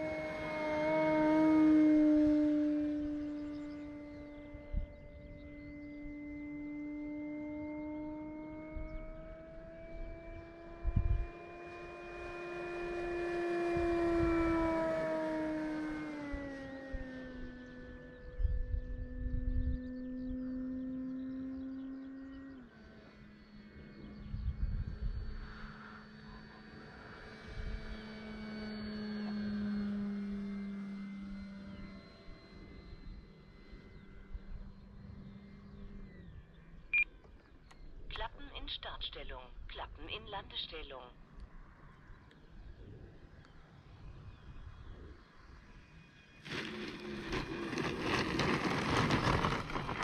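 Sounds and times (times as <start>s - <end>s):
model plane propeller whine: 0.0s - 38.1s, 41.2s - 50.0s.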